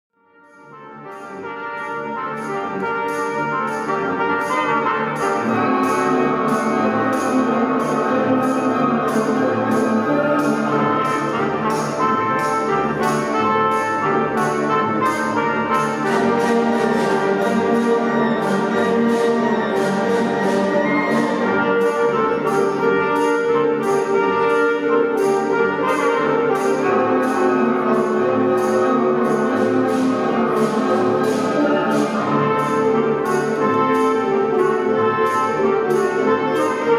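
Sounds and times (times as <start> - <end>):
trumpets and trombones playing: 0.3 - 36.9
steady percussion beat: 2.3 - 36.9.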